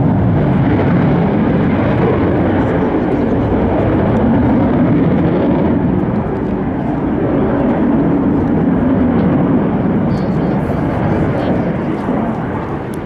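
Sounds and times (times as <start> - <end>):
fighter jet engine roar: 0.0 - 13.0.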